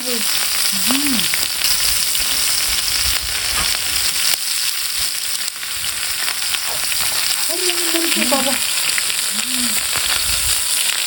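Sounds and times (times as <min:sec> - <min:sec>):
meat sizzling on griddle: 0:00.0 - 0:11.0
small crackles: 0:00.0 - 0:11.0.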